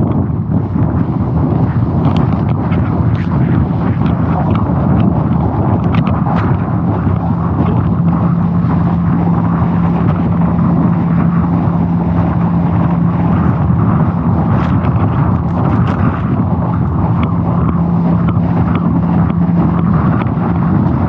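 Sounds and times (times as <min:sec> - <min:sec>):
boat motor running: 0:00.0 - 0:21.0
rushing wind: 0:00.0 - 0:21.0
water rushing: 0:00.2 - 0:21.0.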